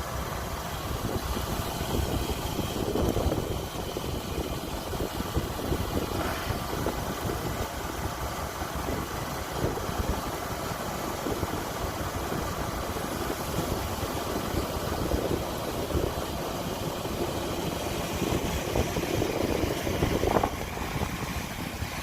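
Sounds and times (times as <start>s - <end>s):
combine harvester droning: 0.0s - 22.0s.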